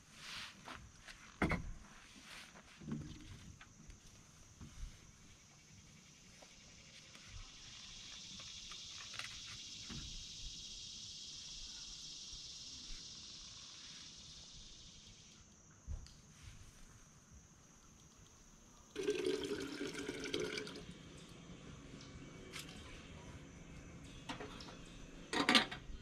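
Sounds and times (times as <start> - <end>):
insect chorus buzzing: 2.8 - 26.0.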